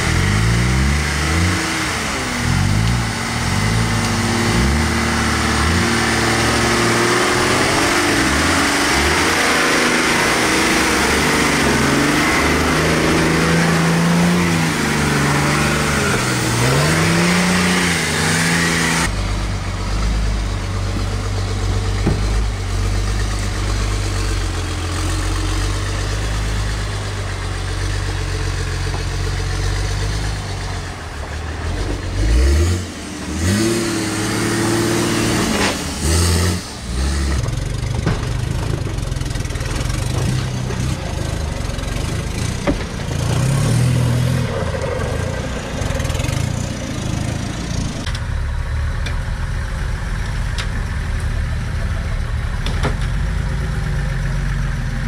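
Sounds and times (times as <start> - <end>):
off-road engine revving: 0.0 - 55.0.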